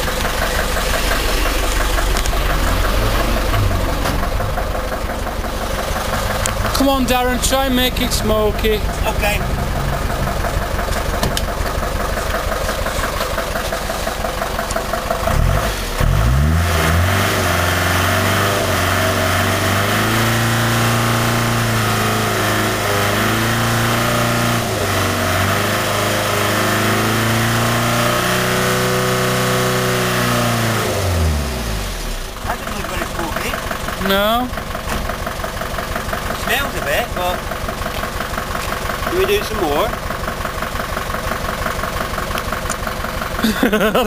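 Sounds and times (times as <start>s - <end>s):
diesel engine idling and revving: 0.0s - 44.0s.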